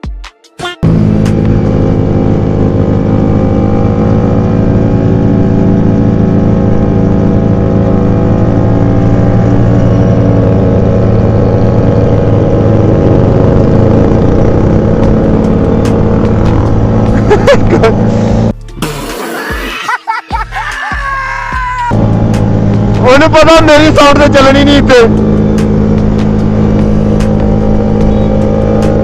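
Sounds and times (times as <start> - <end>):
motorcycle engine running steadily: 0.8 - 18.6, 21.8 - 29.0.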